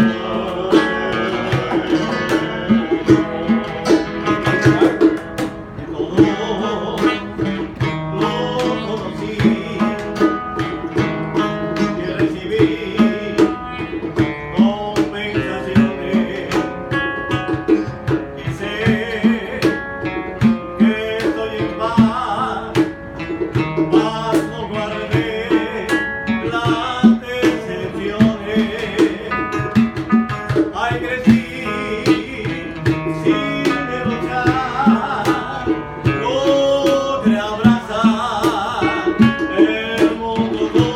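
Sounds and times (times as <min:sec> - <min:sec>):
acoustic guitars strummed: 0:00.0 - 0:40.9
cajon beat: 0:00.0 - 0:40.9
man singing: 0:00.0 - 0:40.9.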